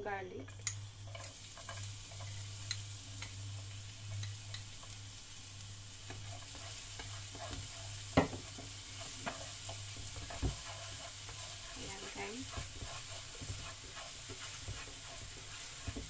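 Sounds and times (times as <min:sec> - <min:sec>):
garlic sizzling in oil: 0:00.0 - 0:16.0
chopsticks tapping a pan: 0:00.5 - 0:05.0, 0:06.0 - 0:16.0.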